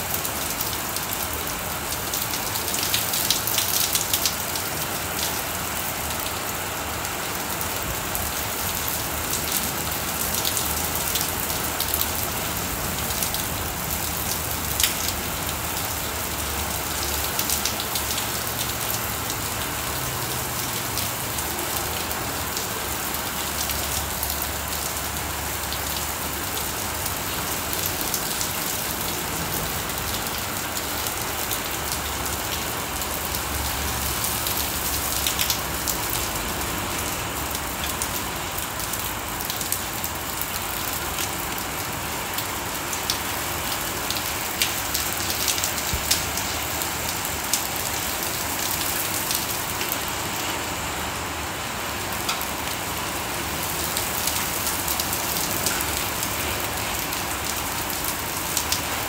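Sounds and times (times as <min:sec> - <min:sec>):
heavy rain on concrete: 0:00.0 - 0:59.0.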